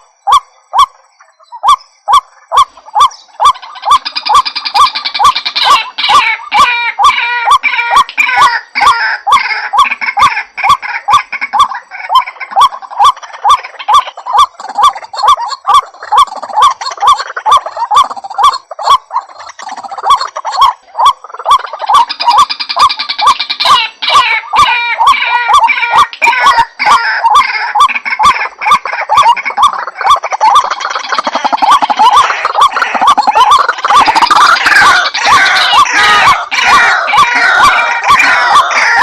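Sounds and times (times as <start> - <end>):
waterhen calling: 0.0 - 39.0.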